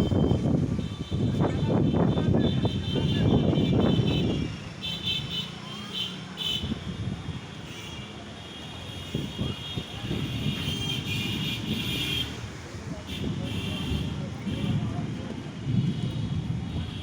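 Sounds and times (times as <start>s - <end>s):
strong wind buffeting microphone: 0.0s - 4.8s, 6.6s - 7.6s, 9.0s - 17.0s.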